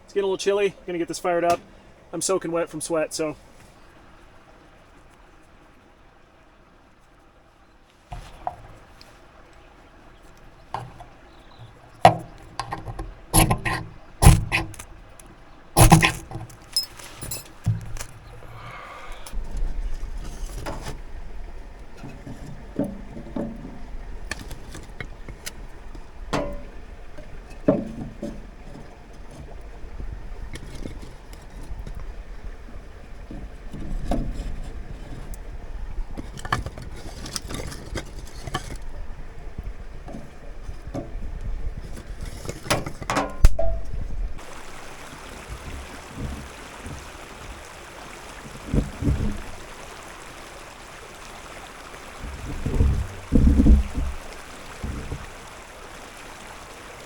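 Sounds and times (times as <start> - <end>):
firewood and metal clattering: 1.2 - 2.4, 8.0 - 57.0.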